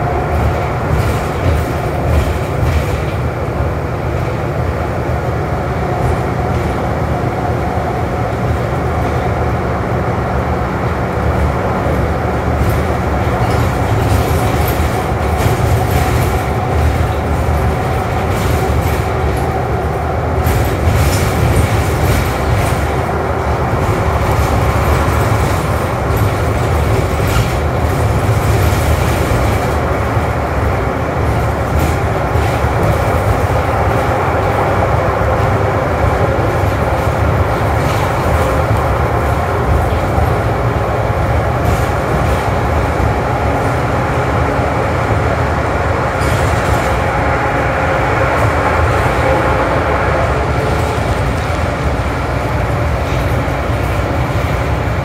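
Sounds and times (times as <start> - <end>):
bus body rattles: 0.0 - 55.0
bus engine and tyres drone: 0.0 - 55.0.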